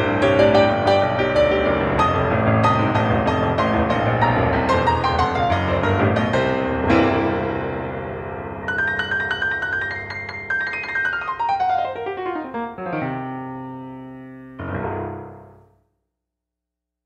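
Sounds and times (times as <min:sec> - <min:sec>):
solo rock and roll piano: 0:00.0 - 0:15.8.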